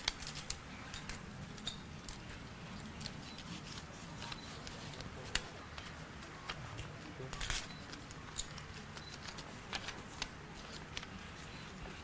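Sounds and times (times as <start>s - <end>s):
sticky notes peeling and rustling: 0.0s - 12.0s.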